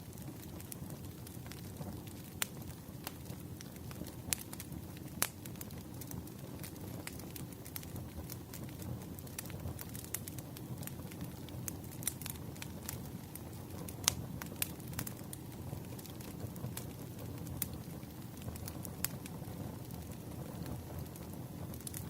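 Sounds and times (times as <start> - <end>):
low rumble of flames: 0.0 - 22.0
wood fire crackling: 0.0 - 22.0.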